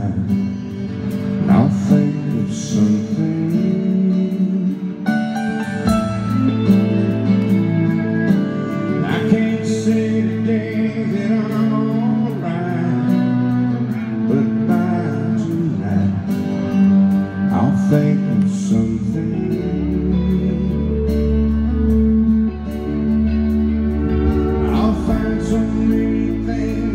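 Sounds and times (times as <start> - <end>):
lead guitar lines: 0.0 - 26.9
live country band playing: 0.0 - 26.9
strummed acoustic guitar: 0.0 - 26.9.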